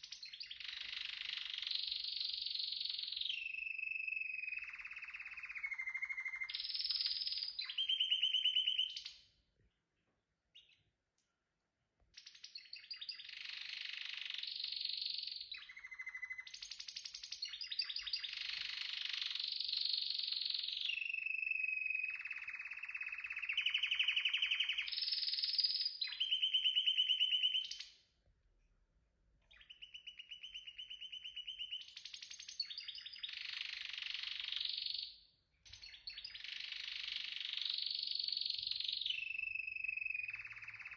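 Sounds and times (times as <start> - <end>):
canary singing trills: 0.0 - 9.3, 12.2 - 28.0, 29.5 - 40.9.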